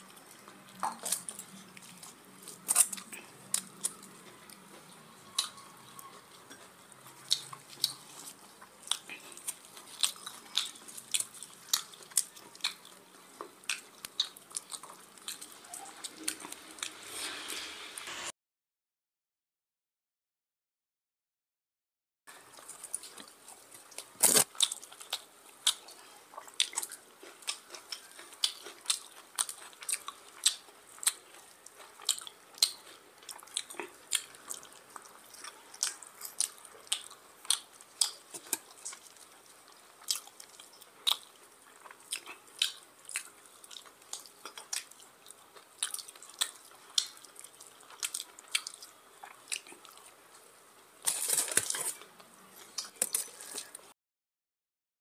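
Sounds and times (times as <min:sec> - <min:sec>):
mouth smacking and chewing: 0:00.1 - 0:16.9, 0:22.6 - 0:50.2.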